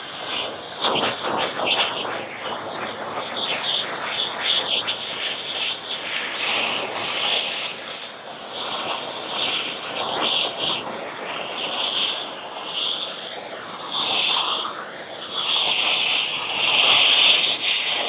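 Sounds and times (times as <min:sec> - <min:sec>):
propane torch hissing: 0:00.0 - 0:18.0.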